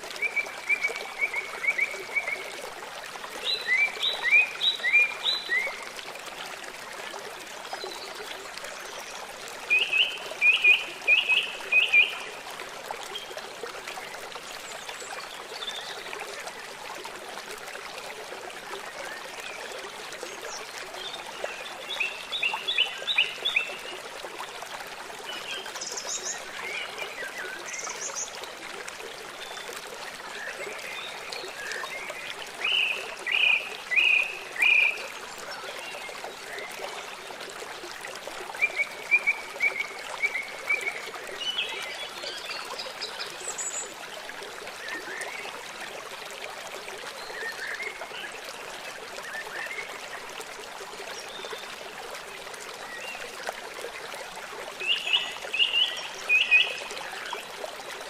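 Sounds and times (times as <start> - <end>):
running stream: 0.0 - 58.0.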